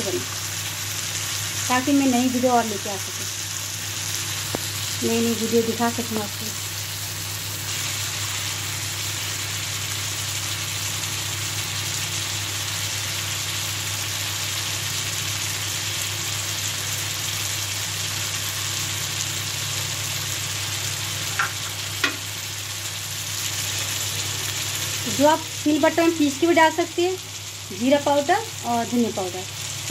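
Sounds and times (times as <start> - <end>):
food sizzling in oil: 0.0 - 29.9.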